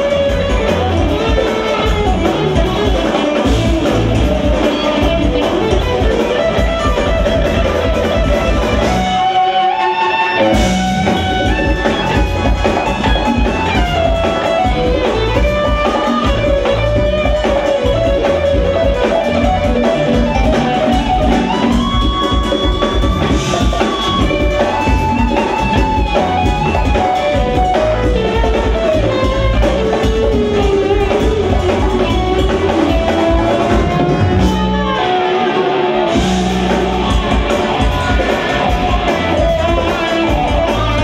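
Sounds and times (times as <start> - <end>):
jazz-funk band playing: 0.0 - 41.0.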